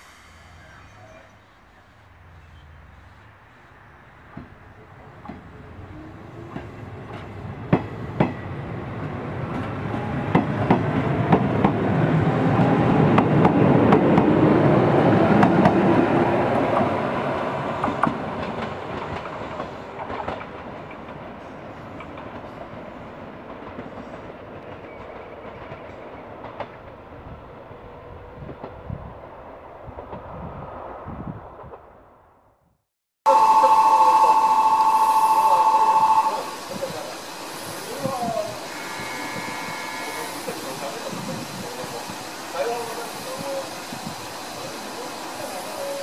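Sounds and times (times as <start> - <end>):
electric train passing: 0.0 - 31.8, 33.3 - 46.0.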